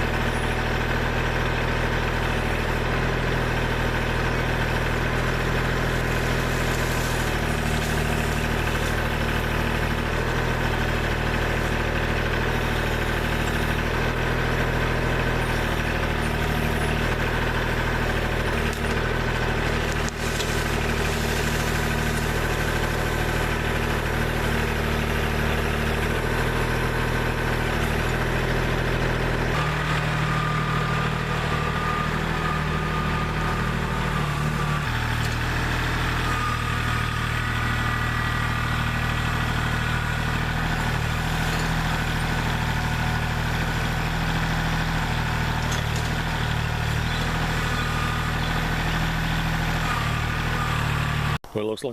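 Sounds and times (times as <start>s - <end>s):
diesel engine running: 0.0s - 51.8s.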